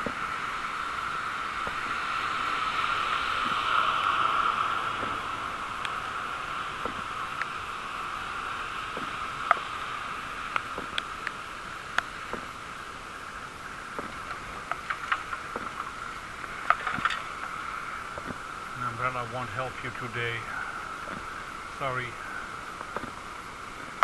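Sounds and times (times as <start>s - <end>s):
rain hiss: 0.0s - 24.0s
raindrops ticking on camera: 0.0s - 24.0s.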